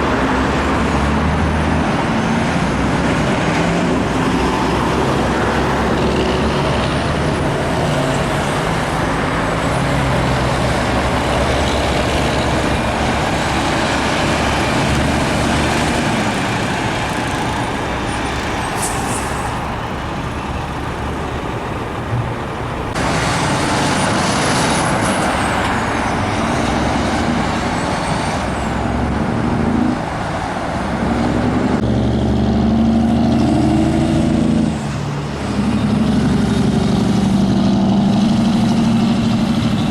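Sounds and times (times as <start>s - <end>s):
truck engine close by: 0.0s - 39.9s
trucks passing on highway: 0.0s - 39.9s.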